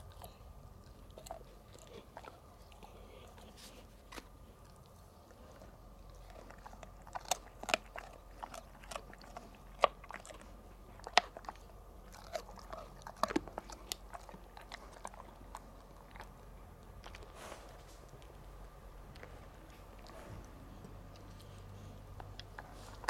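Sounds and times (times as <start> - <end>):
dog chewing crunchy treat: 0.0 - 23.0.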